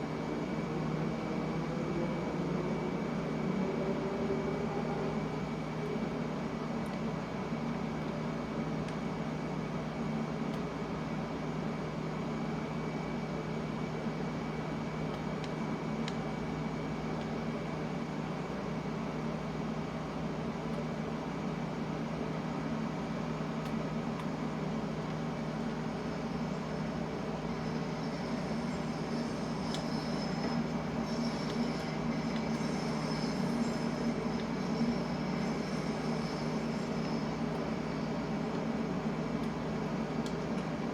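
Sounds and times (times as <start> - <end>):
faint high whine: 0.0 - 40.9
underground train drone: 0.0 - 40.9.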